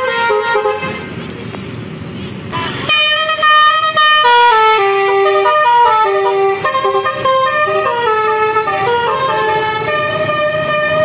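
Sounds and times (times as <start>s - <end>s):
musical vehicle horn melody: 0.0s - 1.2s, 2.5s - 11.0s.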